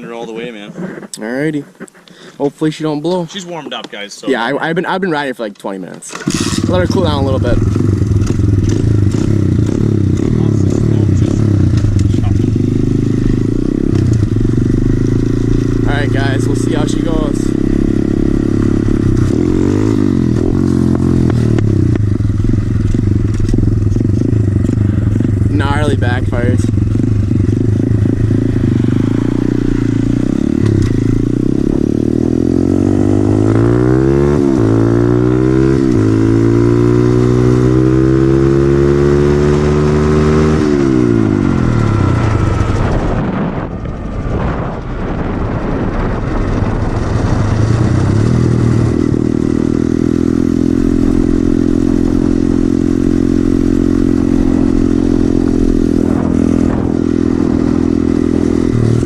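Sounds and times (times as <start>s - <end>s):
motorbike engine revving: 6.1s - 59.0s.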